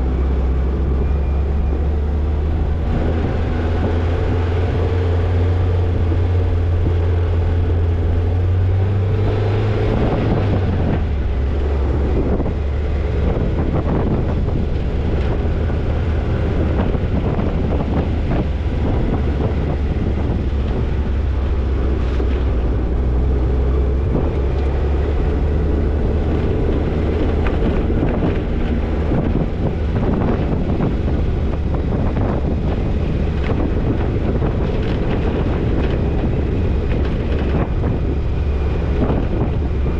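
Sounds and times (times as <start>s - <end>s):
car engine running: 0.0s - 39.9s
wind on microphone: 0.0s - 39.9s.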